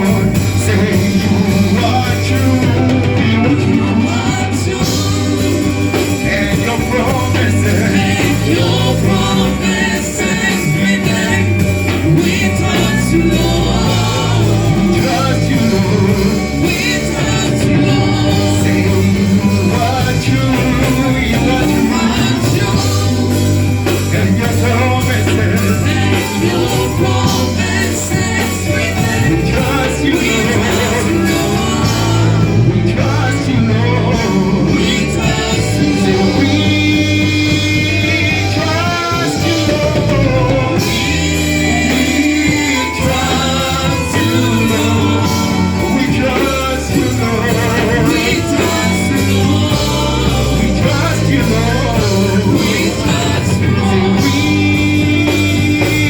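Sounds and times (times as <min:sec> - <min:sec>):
gospel band with bass: 0:00.0 - 0:56.0
people singing: 0:00.0 - 0:56.0.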